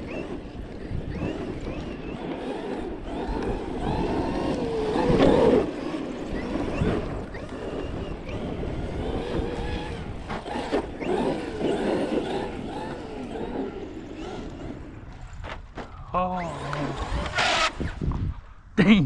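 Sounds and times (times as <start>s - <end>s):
electric motor whine: 0.0s - 18.2s.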